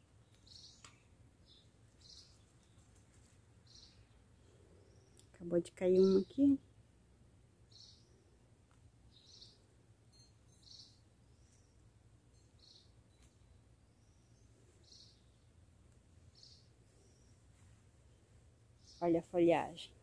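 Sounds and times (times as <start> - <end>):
faint bird chirps: 0.2 - 6.7, 7.6 - 19.4.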